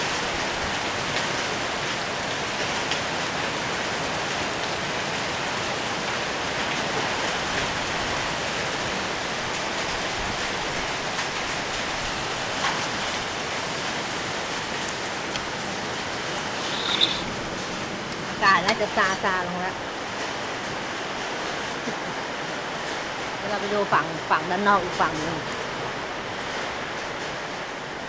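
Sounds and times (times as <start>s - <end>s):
heavy rain and hail: 0.0s - 28.0s.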